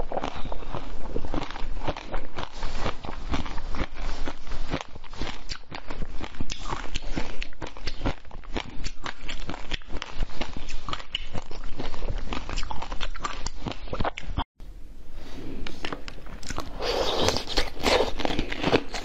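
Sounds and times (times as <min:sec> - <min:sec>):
chewing crunchy sweet: 0:00.0 - 0:14.4, 0:15.8 - 0:19.0.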